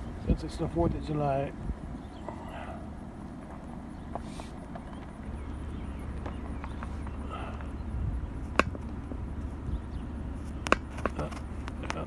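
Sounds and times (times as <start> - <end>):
vehicle rumbling on rough track: 0.0 - 12.0.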